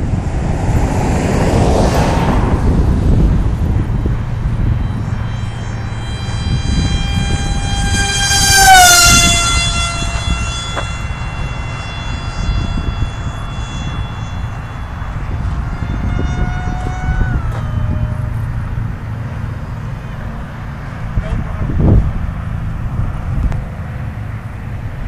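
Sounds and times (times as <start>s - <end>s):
electric motor and propeller whine: 0.0s - 25.0s
wind rumbling on microphone: 0.0s - 25.0s.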